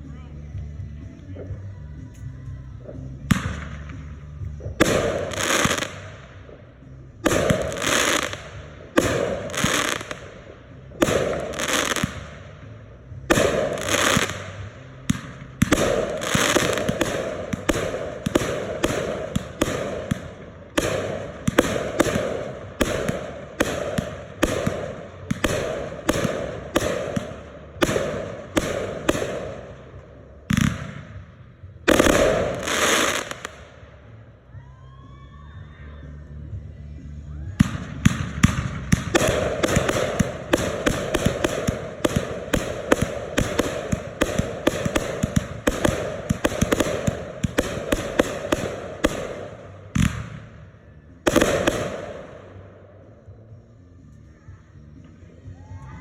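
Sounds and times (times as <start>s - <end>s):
fireworks bangs: 2.8s - 34.2s, 37.6s - 52.6s.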